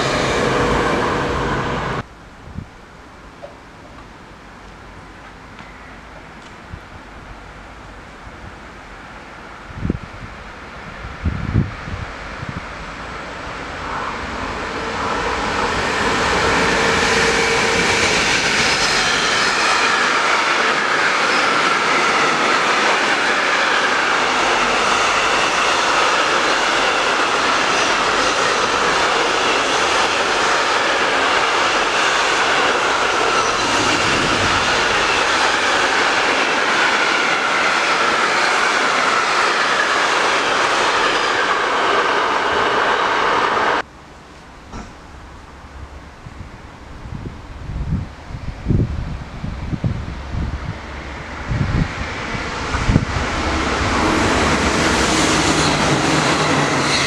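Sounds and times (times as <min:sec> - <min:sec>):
train wheels rolling on rails: 0:03.4 - 0:08.0, 0:09.8 - 0:46.4, 0:47.0 - 0:57.0.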